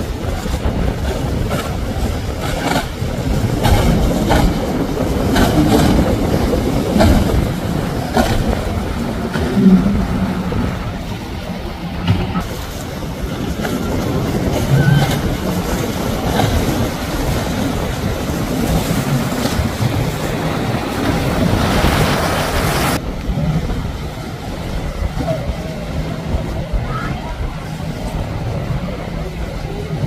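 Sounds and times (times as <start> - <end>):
boat engines rumbling: 0.0 - 30.0
rushing water: 0.0 - 30.0.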